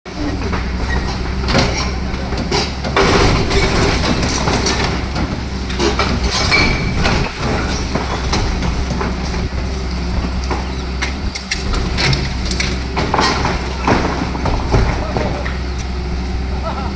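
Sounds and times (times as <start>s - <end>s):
heavy diesel machinery running: 0.0s - 16.9s
masonry cracking: 0.2s - 16.7s
debris clattering down: 0.2s - 16.9s.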